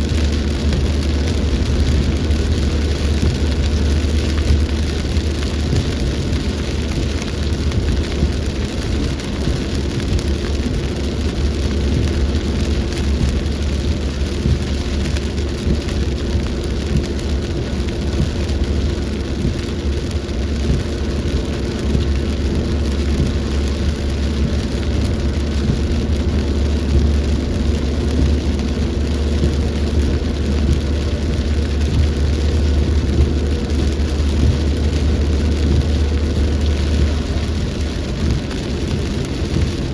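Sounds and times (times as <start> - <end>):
low rumble: 0.0 - 39.9
rain pouring: 0.0 - 39.9.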